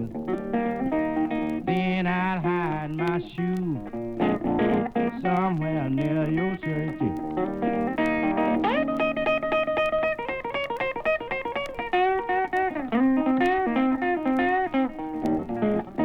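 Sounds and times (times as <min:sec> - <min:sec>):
blues electric guitar solo: 0:00.0 - 0:16.0.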